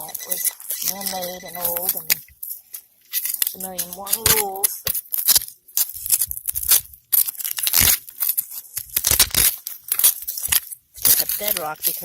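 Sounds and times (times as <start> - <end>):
rock and gravel crunching: 0.0 - 12.0.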